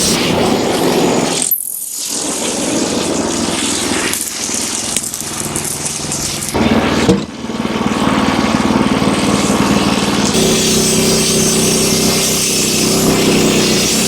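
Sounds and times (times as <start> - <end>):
sawmill engine running: 2.2 - 14.0.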